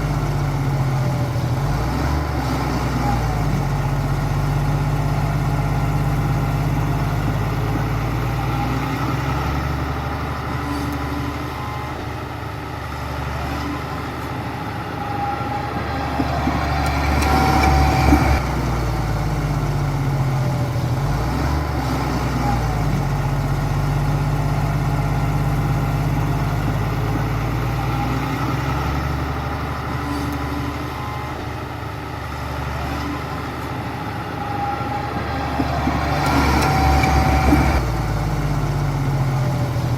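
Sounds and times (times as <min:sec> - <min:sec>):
diesel construction machinery: 0:00.0 - 0:39.9.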